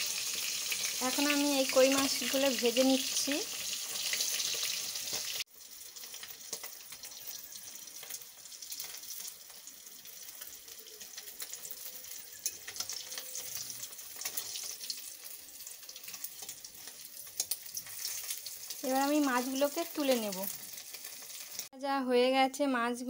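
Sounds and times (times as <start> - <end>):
fish frying in oil: 0.0 - 21.7.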